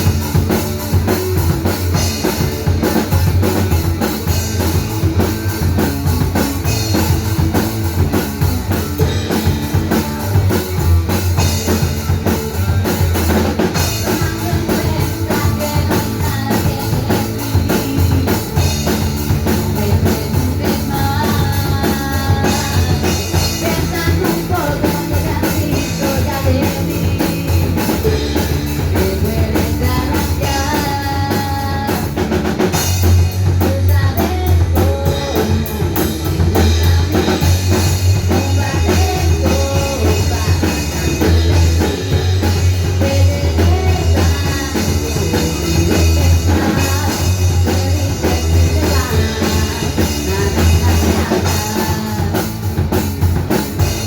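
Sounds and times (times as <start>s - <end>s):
drum kit steady beat: 0.0s - 54.0s
electric guitar: 0.0s - 54.0s.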